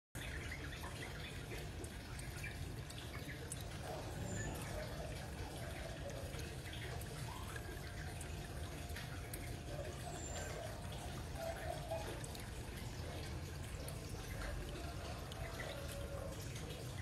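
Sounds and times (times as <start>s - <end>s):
water dripping and splashing: 0.2s - 17.0s.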